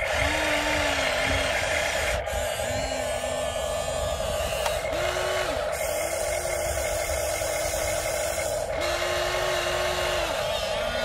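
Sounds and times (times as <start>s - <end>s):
constant hum: 0.0s - 11.0s
electric motors whining: 0.0s - 11.0s.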